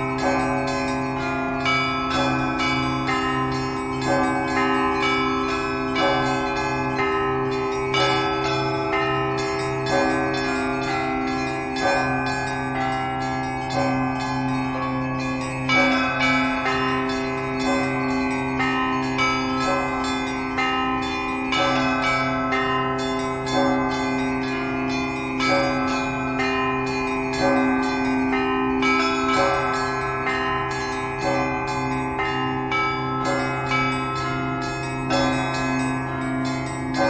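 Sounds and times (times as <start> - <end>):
church bells pealing: 0.0 - 37.0
deep bell humming: 0.0 - 37.0.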